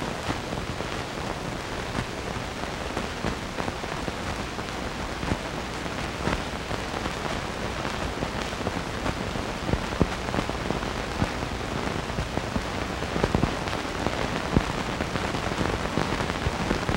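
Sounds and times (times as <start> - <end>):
crackles and pops: 0.0 - 16.9
film soundtrack surface hiss: 0.0 - 16.9.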